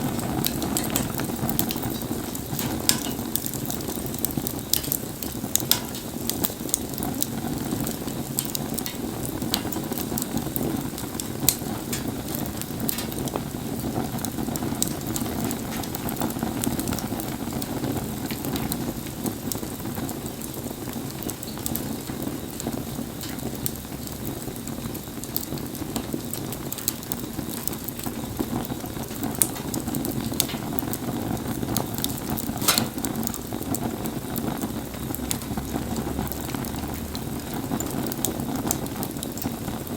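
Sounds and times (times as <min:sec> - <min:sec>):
campfire crackling and popping: 0:00.0 - 0:39.9
rain hissing: 0:00.0 - 0:39.9.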